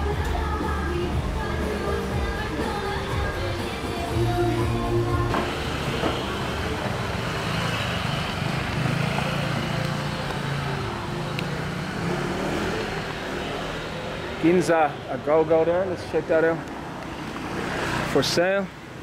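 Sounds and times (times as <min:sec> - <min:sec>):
street noise: 0:00.0 - 0:19.0.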